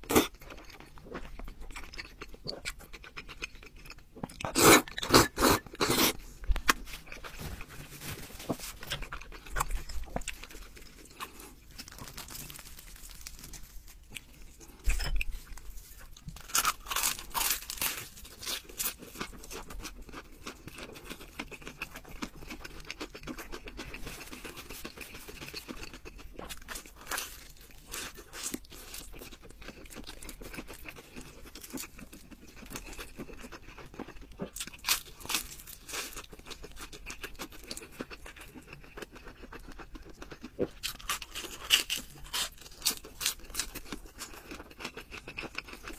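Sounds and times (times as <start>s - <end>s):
crunchy bites and chewing: 0.0s - 45.9s.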